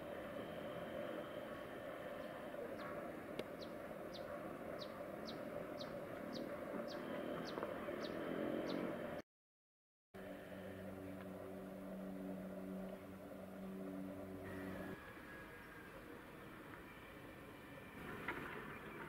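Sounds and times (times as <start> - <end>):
steady background hum: 0.0 - 9.2, 10.2 - 19.0.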